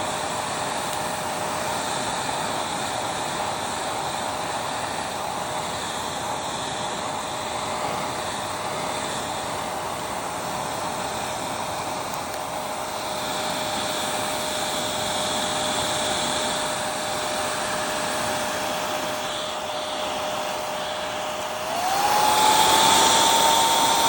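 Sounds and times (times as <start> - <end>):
hair dryer whining: 0.0 - 24.0.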